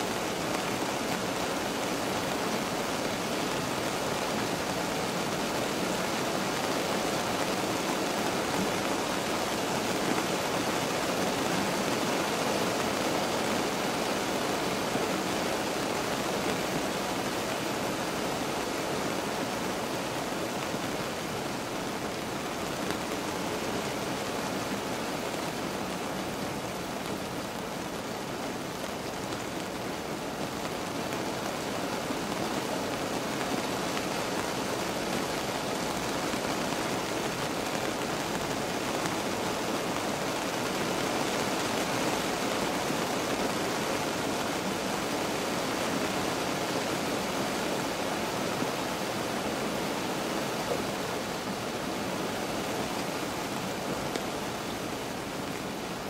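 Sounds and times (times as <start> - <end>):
rain on a car roof: 0.0 - 56.0.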